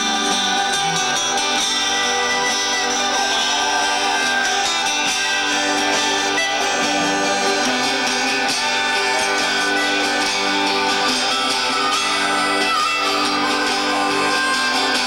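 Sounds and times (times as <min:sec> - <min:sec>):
guitar: 0:00.0 - 0:15.0
harmonica long notes: 0:00.0 - 0:15.0.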